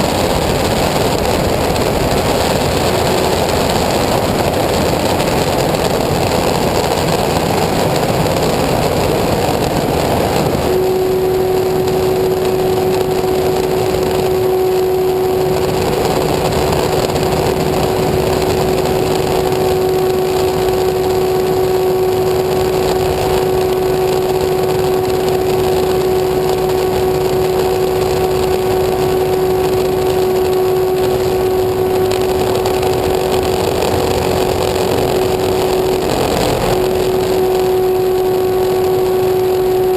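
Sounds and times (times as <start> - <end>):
engine running: 0.0 - 39.9
loud rushing noise: 0.0 - 39.9
mid-pitched hum: 0.0 - 39.9.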